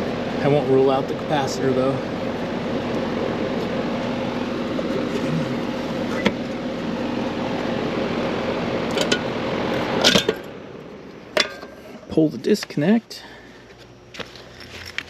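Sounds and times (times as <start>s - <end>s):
condenser fan motor humming: 0.0s - 15.0s.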